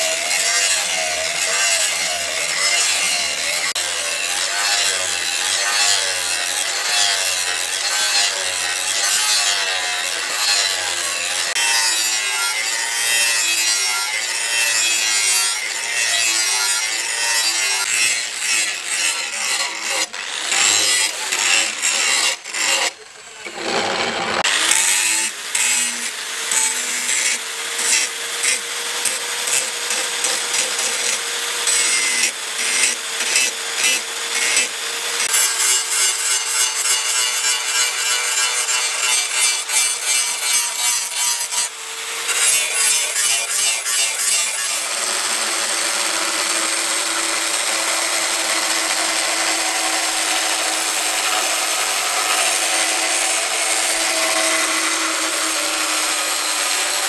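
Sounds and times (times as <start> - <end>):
angle grinder grinding steel: 0.0 - 57.0.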